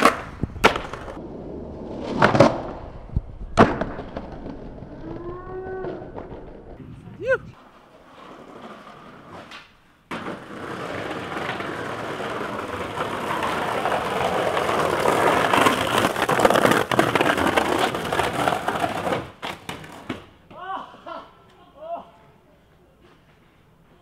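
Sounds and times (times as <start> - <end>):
skateboard wheels on cobblestones: 0.0 - 20.7.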